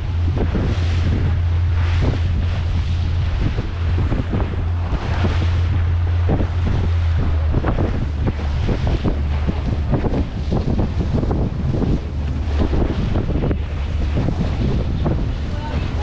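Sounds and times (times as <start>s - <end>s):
steady low drone: 0.0s - 16.0s
water slapping against hull: 0.0s - 16.0s
wind buffeting microphone: 0.0s - 16.0s.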